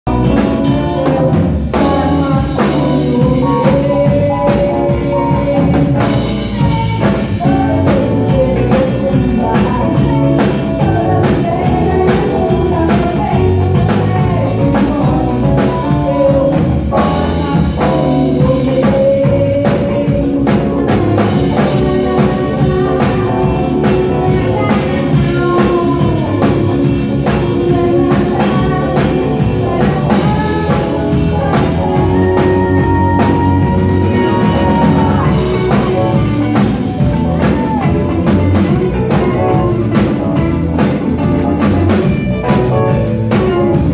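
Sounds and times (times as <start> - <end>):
drum kit steady beat: 0.0 - 43.9
guitar: 0.0 - 43.9
person singing: 0.0 - 43.9
rock band playing live: 0.0 - 43.9.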